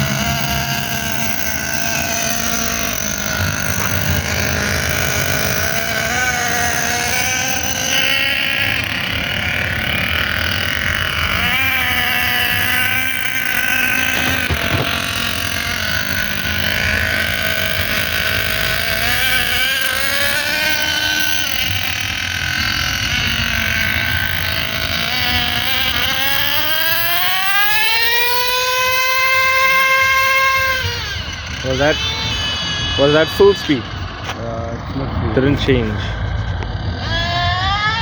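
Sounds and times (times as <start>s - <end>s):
rc truck nitro engine revving: 0.0s - 38.0s.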